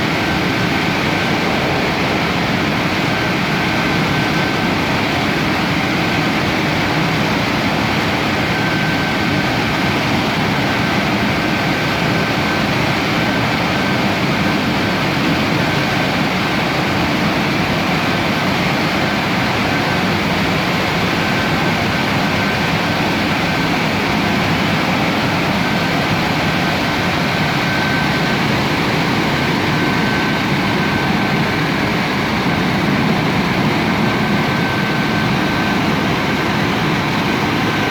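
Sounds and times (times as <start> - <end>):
car wash machinery rushing: 0.0 - 37.9
faint high whine: 0.0 - 37.9.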